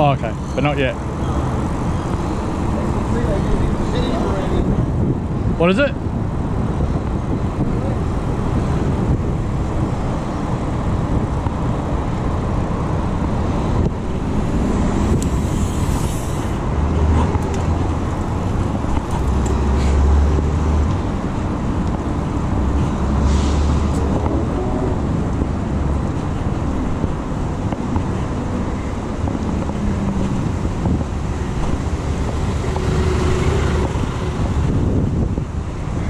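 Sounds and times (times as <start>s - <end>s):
road traffic: 0.0s - 36.0s
wind rumble on camera: 0.0s - 36.0s.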